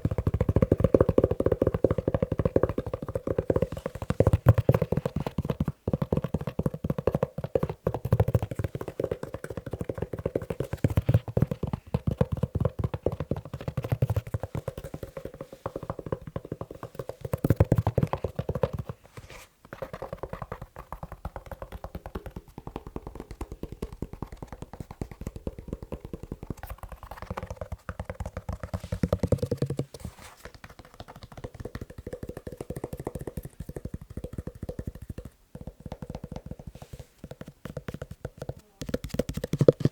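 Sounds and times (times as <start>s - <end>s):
fingers tapping on leather shoe: 0.0s - 39.9s.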